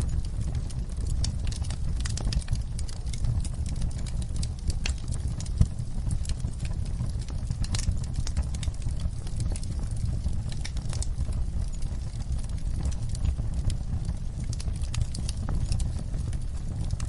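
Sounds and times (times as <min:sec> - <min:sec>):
low rumble of fire: 0:00.0 - 0:17.0
wood fire pops and snaps: 0:00.0 - 0:17.0.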